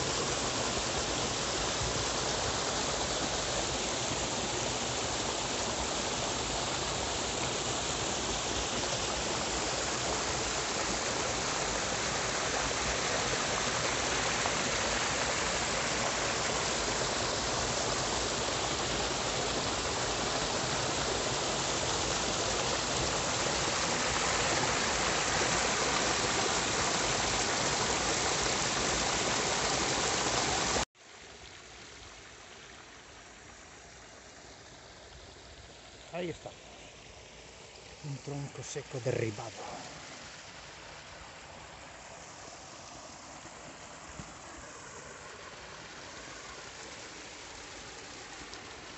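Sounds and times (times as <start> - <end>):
water rushing down stream: 0.0 - 48.9
waterfall splashing into pool: 0.0 - 48.9.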